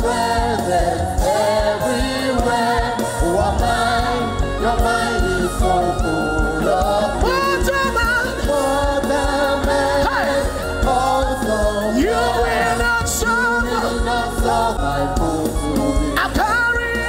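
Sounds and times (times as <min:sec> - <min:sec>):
sustained backing chords: 0:00.0 - 0:17.0.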